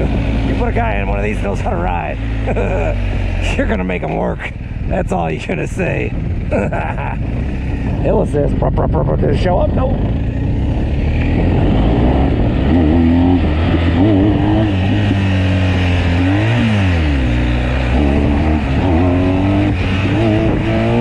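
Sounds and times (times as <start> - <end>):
motorcycle engine revving: 0.0 - 21.0
wind noise: 0.0 - 21.0.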